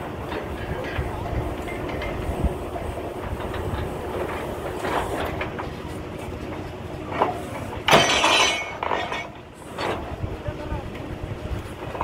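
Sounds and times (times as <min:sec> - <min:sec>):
drilling rig clattering: 0:00.0 - 0:10.3.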